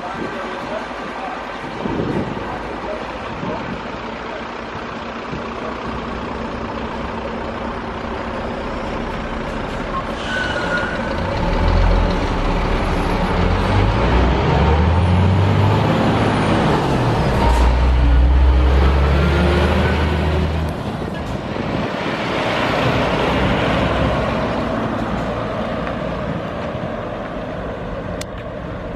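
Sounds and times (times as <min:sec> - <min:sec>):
road noise: 0:00.0 - 0:28.9
truck diesel engine passing: 0:00.0 - 0:28.9.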